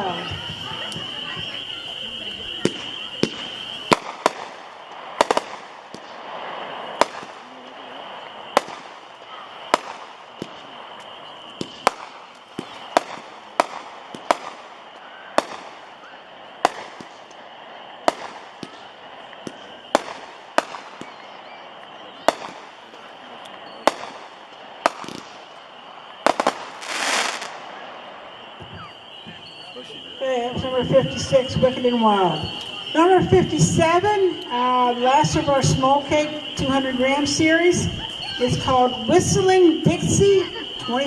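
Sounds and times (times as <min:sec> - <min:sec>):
firework cake bangs: 0:00.1 - 0:34.1.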